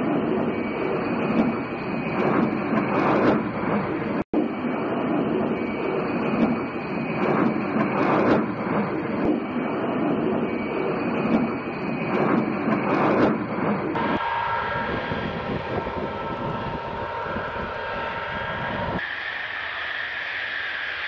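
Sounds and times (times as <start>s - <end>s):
jet engine rushing: 0.0s - 21.0s.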